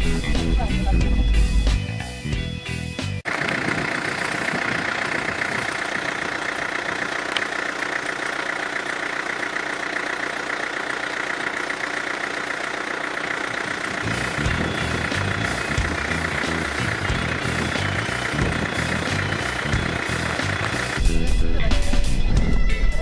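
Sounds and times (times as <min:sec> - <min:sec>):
engine running steadily: 0:03.0 - 0:23.0.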